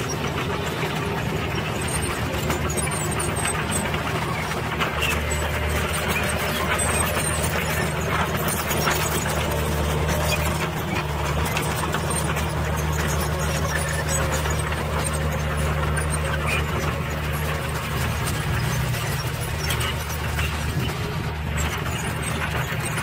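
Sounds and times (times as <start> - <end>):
diesel truck engine humming: 0.0 - 23.0.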